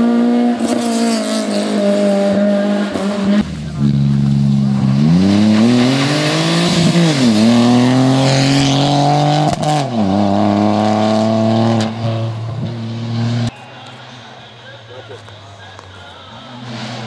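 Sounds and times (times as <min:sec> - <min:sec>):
rally car engine accelerating: 0:00.0 - 0:13.5, 0:16.3 - 0:17.0.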